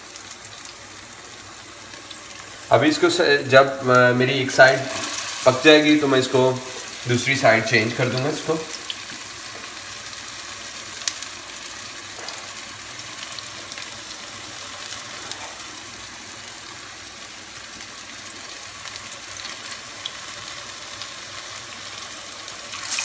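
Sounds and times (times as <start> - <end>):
patties sizzling in hot oil: 0.0 - 23.0.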